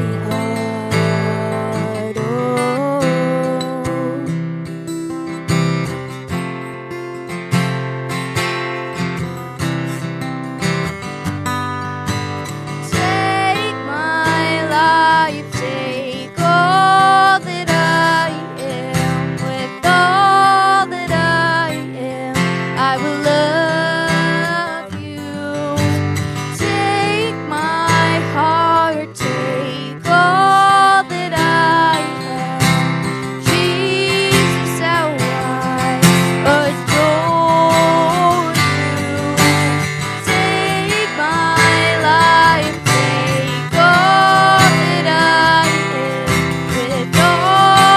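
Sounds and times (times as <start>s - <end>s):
strummed acoustic guitar: 0.0s - 47.9s.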